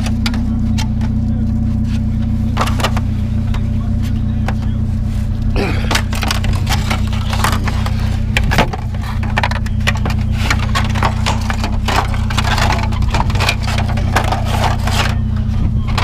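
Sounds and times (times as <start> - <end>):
low engine hum: 0.0 - 16.0
scrap metal clattering and scraping: 0.0 - 16.0.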